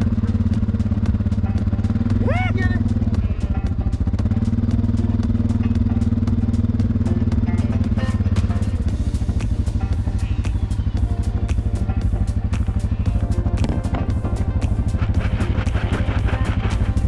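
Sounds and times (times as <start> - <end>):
atv engine chugging: 0.0 - 17.0.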